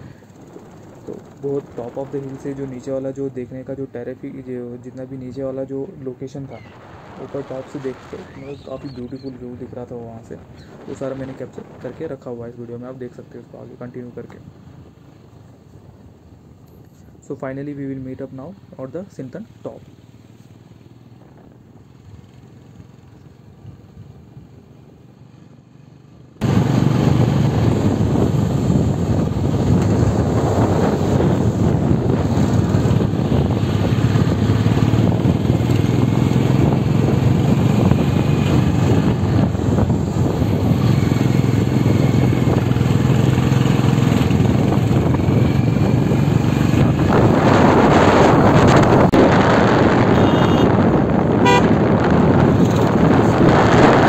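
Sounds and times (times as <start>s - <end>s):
vehicle engine and tyres rumbling: 0.0s - 54.0s.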